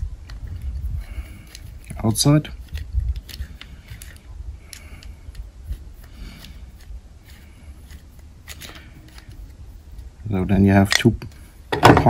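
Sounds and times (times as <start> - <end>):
hex key clicking and scraping: 0.2 - 10.1.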